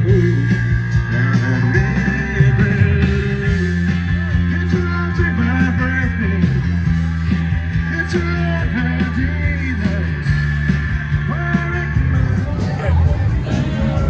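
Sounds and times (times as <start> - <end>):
electric guitar: 0.0 - 14.0
steady bass line: 0.0 - 14.0.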